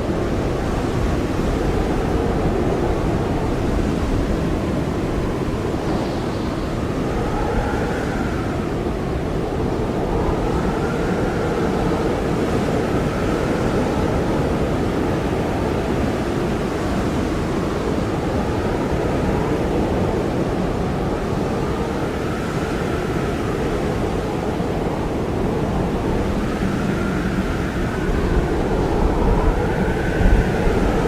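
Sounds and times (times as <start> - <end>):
blizzard wind rushing: 0.0 - 31.0
wind whistling: 0.0 - 31.0.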